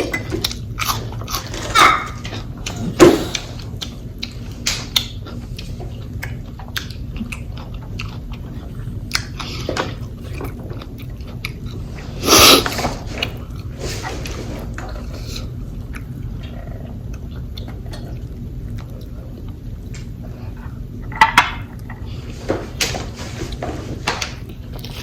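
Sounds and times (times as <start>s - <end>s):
chewing: 0.2s - 20.9s, 24.4s - 25.0s.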